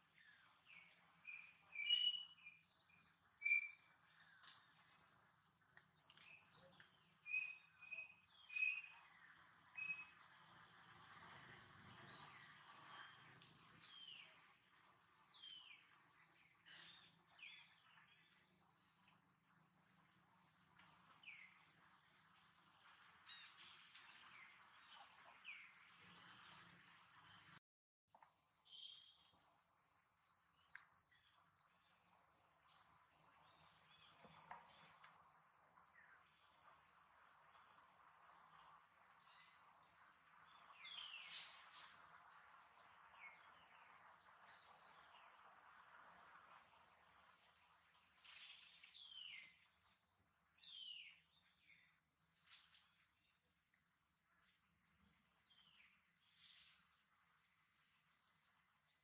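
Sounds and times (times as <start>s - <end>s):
faint insects chirping: 0.0s - 59.0s.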